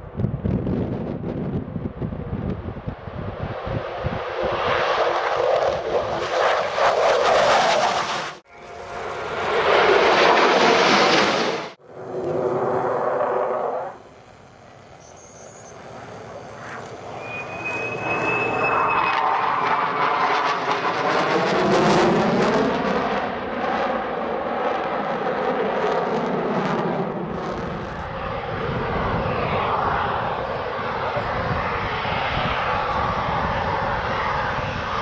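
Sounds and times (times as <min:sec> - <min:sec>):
aircraft engine noise: 0:00.0 - 0:35.0
plane passing close by: 0:00.0 - 0:35.0.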